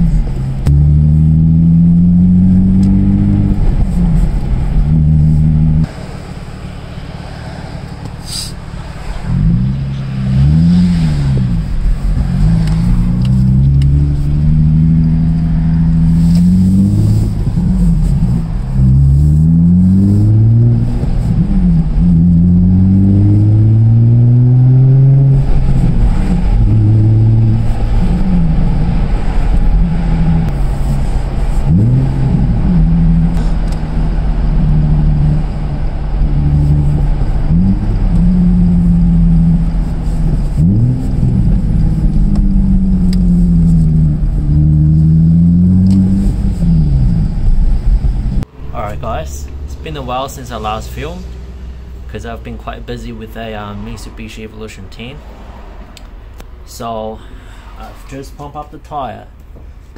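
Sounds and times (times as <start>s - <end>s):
car engine revving: 0.0s - 54.4s.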